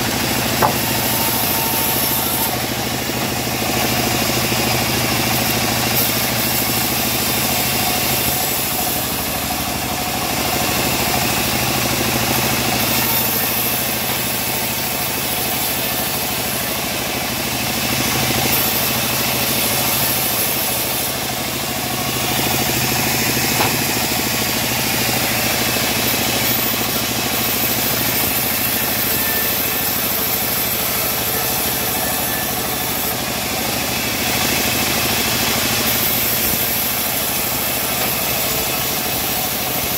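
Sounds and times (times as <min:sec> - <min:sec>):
bandsaw mill cutting wood: 0:00.0 - 0:39.9.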